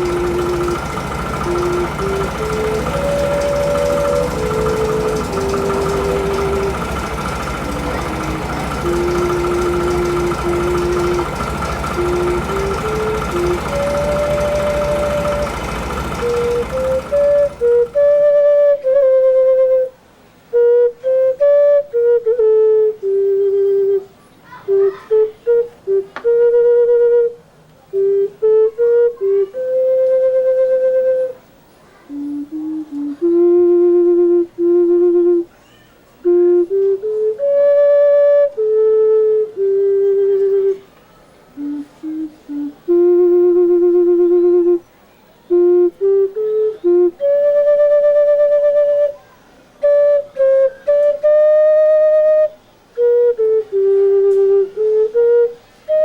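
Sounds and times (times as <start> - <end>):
ocarina playing slow melody: 0.0 - 31.4, 32.1 - 35.5, 36.2 - 40.9, 41.6 - 49.2, 49.8 - 56.0.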